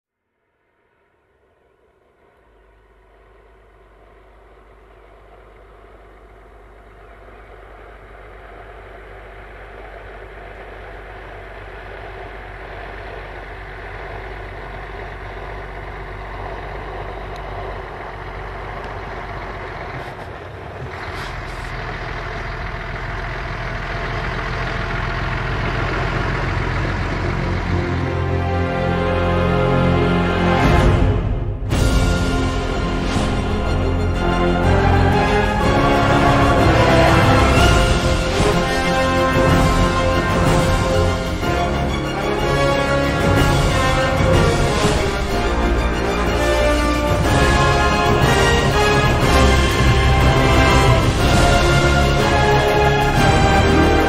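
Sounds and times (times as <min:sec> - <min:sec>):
truck diesel engine drone: 0:00.2 - 0:54.0.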